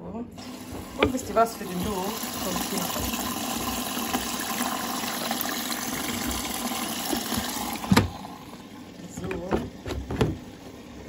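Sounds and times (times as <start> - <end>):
water rushing into washing machine: 0.4 - 11.0.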